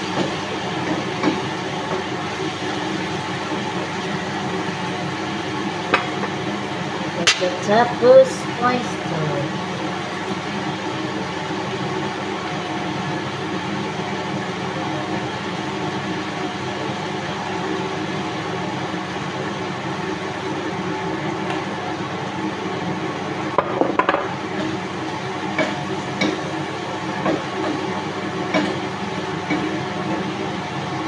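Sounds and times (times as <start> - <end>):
range hood fan humming: 0.0 - 31.0.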